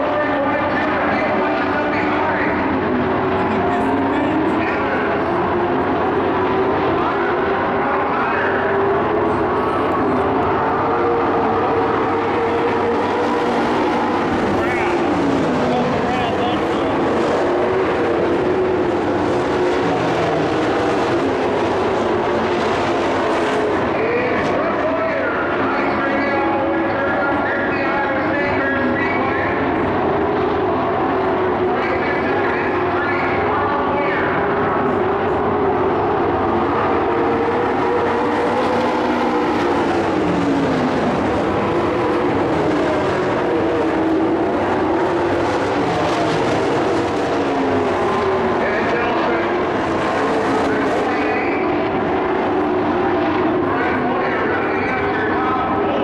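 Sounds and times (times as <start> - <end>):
racing truck engines: 0.0 - 56.0.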